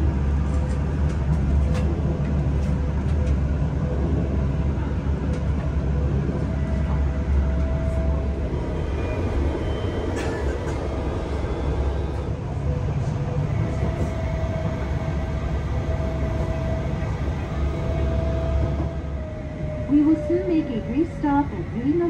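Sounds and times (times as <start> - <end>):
tram wheels rumbling on track: 0.0 - 22.0.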